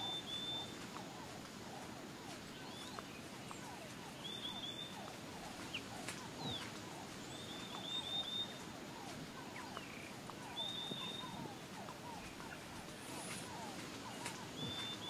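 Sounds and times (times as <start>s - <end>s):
chorus of downward-sliding calls: 0.0s - 15.0s.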